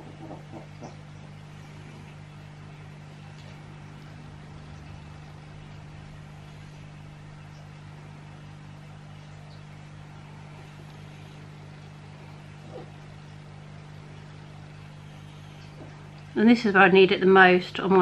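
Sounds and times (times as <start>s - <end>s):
low machine hum with fast pulse: 0.0s - 18.0s.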